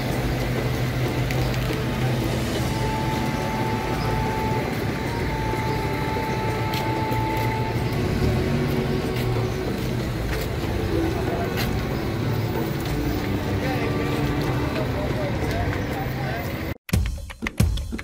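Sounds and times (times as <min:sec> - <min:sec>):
motor vehicles rumbling: 0:00.0 - 0:16.8.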